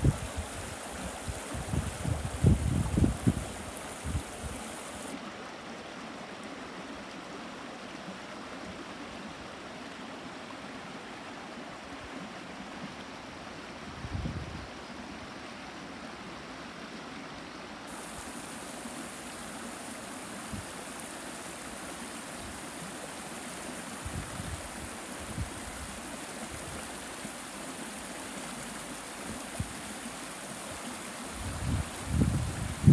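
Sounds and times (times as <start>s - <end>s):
stream flowing over stones: 0.0s - 13.9s, 14.7s - 32.9s.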